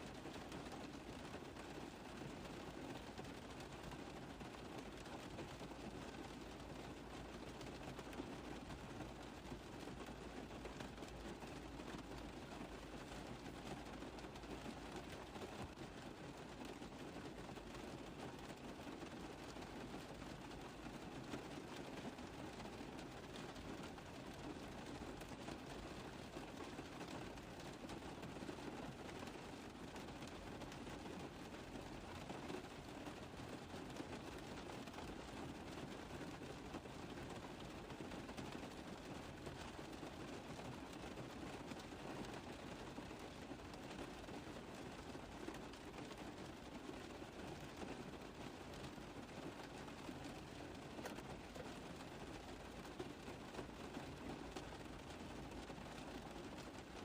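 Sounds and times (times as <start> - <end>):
rain tapping on car roof: 0.0 - 57.0.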